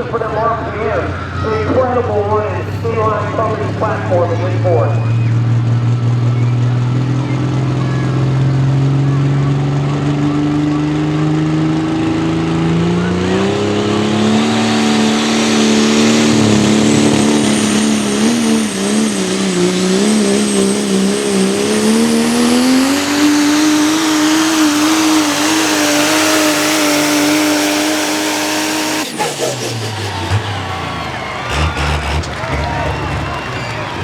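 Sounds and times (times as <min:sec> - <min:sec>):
diesel truck engine at high revs: 0:00.0 - 0:34.0.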